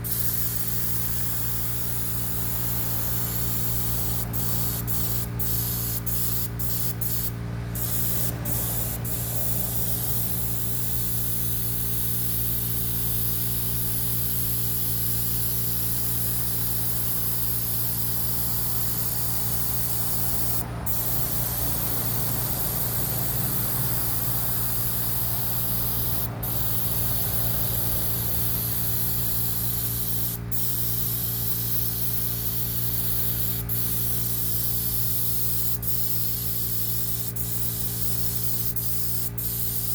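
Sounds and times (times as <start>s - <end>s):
low machine hum: 0.0s - 39.9s
paint spray gun hissing: 0.0s - 39.9s.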